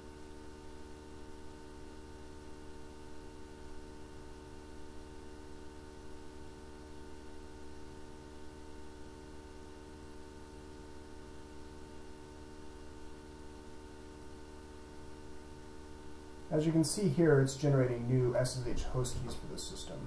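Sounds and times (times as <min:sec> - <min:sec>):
faint constant tones: 0:00.0 - 0:20.0
low hum and hiss: 0:00.0 - 0:20.0.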